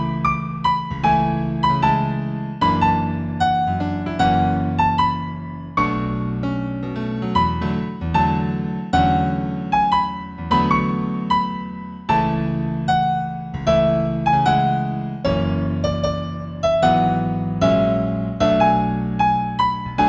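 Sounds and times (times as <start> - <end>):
gentle piano instrumental: 0.0 - 20.0.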